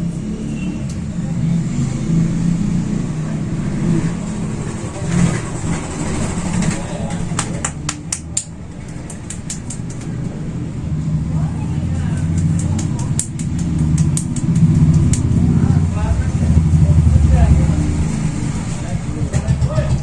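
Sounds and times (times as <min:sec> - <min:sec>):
low steady rumble: 0:00.9 - 0:20.0.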